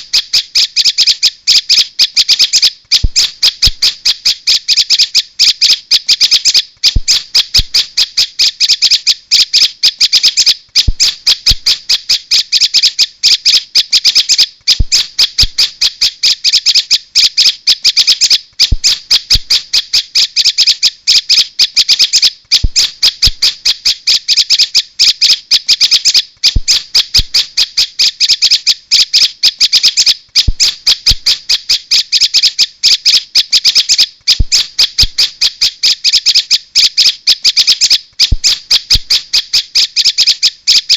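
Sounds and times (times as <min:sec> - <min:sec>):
bird chattering calls: 0:00.0 - 0:40.9.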